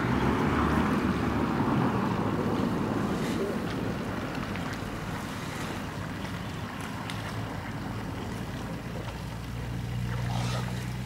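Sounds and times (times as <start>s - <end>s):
small splashes: 0.0s - 11.0s
water sloshing around waders: 0.2s - 11.0s.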